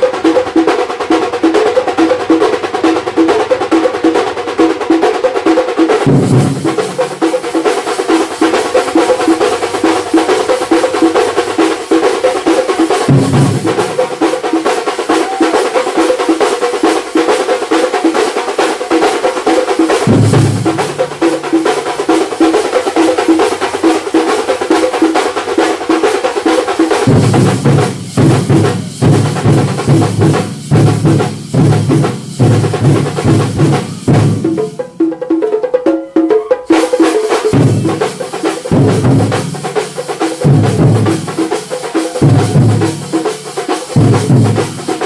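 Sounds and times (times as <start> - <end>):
percussion band drumming: 0.0 - 45.0.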